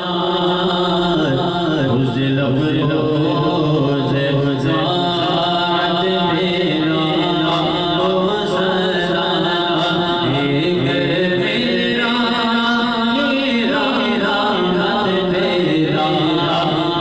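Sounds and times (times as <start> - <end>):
men chanting into a microphone: 0.0 - 17.0.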